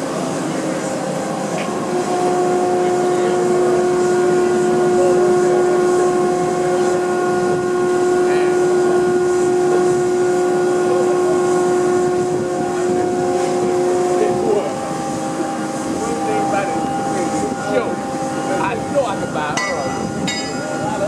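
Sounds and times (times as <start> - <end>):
crane machinery noise: 0.0 - 21.0
steady tone with overtones: 0.0 - 21.0.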